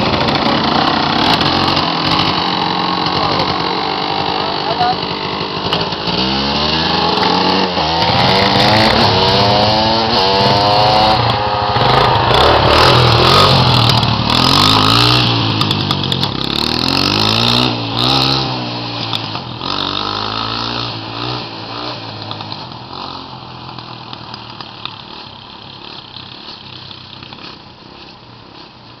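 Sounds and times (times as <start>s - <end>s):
dirt bike engine revving: 0.0s - 27.6s.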